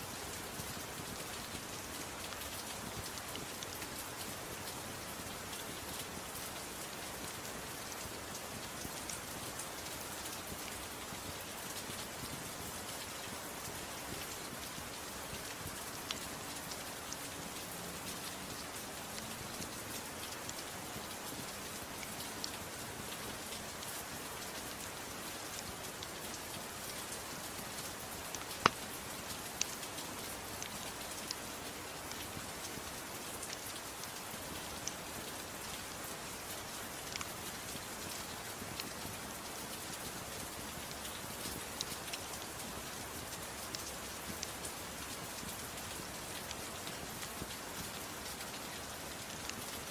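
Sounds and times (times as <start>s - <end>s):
gentle rain falling: 0.0s - 49.9s.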